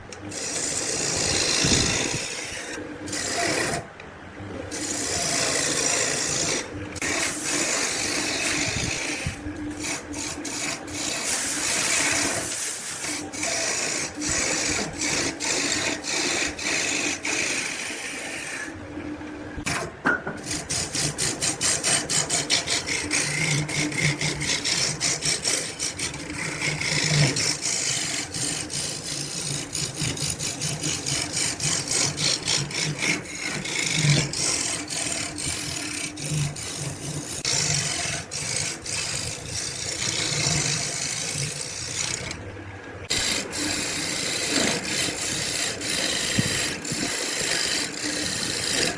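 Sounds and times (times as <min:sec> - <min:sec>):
tool rasping and scraping wood: 0:00.0 - 0:03.9, 0:04.7 - 0:18.8, 0:19.6 - 0:42.4, 0:43.1 - 0:48.9.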